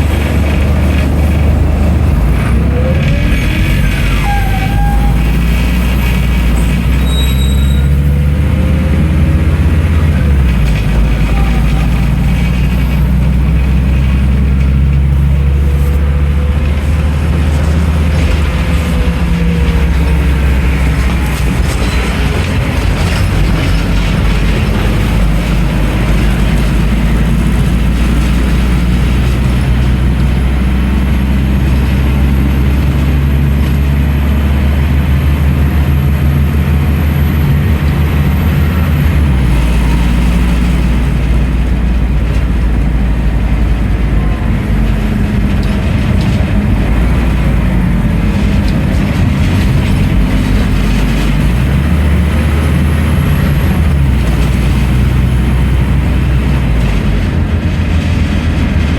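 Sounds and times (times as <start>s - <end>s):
bus diesel engine drone: 0.0s - 58.9s
road rumble: 0.0s - 58.9s.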